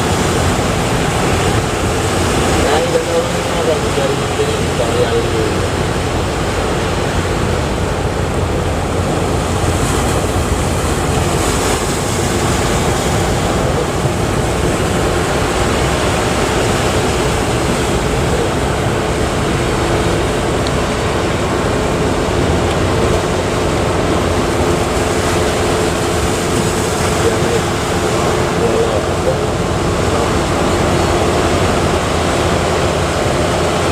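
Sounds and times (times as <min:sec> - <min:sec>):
waves breaking: 0:00.0 - 0:33.9.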